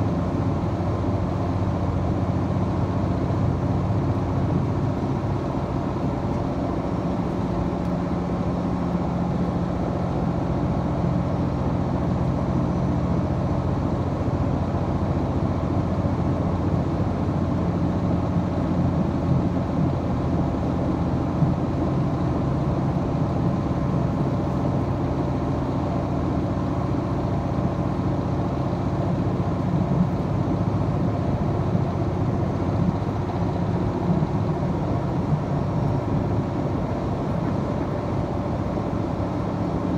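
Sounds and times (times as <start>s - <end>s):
diesel train engine under load: 0.0s - 39.9s.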